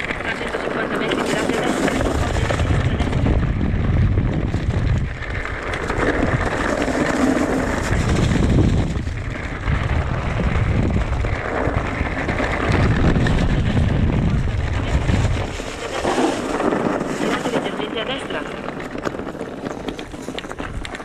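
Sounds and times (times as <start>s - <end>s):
bike rattling on rough trail: 0.0s - 21.0s
wind buffeting microphone: 0.0s - 21.0s.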